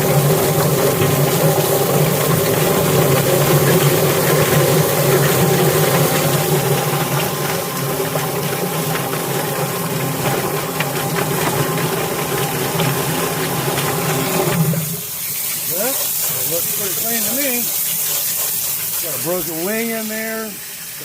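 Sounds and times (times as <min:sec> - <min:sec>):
chicken plucker motor hum: 0:00.0 - 0:21.0
wet rattling wash of water: 0:00.0 - 0:21.0.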